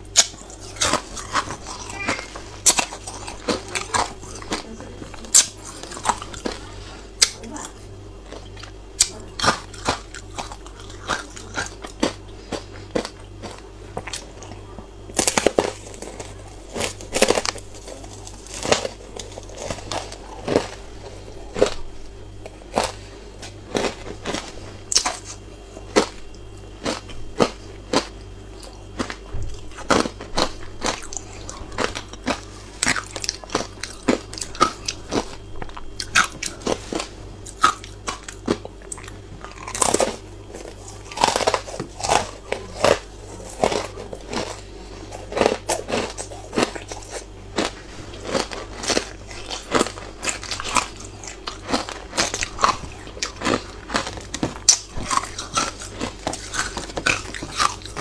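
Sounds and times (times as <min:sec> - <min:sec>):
steady low hum: 0:00.0 - 0:58.0
ice chips crunching in mouth: 0:00.1 - 0:07.7, 0:08.3 - 0:26.2, 0:26.8 - 0:58.0.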